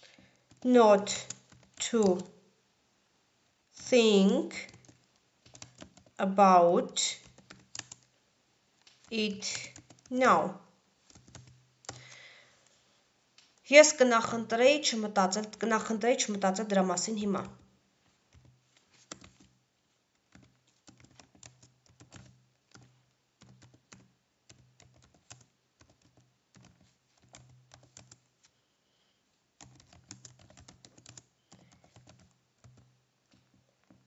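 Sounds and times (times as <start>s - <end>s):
faint keyboard typing: 0.0s - 2.4s, 3.8s - 6.2s, 6.8s - 8.2s, 8.8s - 12.8s, 15.2s - 28.6s, 29.6s - 34.0s.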